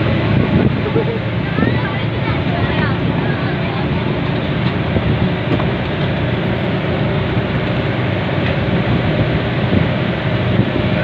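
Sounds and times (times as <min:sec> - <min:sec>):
vehicle rumbling: 0:00.0 - 0:11.0.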